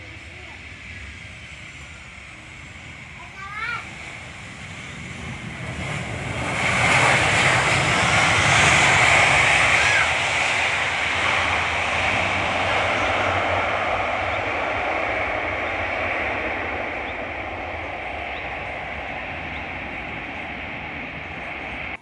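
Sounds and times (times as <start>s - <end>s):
airplane engines passing: 0.0s - 22.0s.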